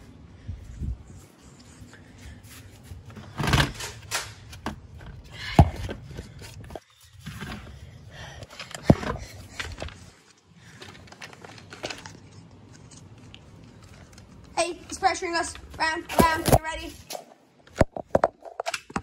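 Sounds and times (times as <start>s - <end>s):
rustling and shuffling: 0.0s - 17.4s.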